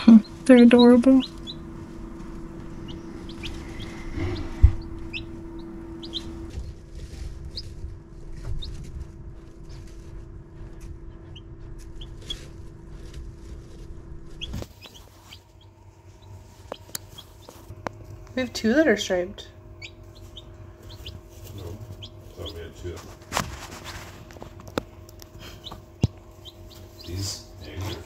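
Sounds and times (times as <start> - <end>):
chicks peeping: 0.0 - 18.2, 19.4 - 28.0
steady low hum: 0.0 - 28.0.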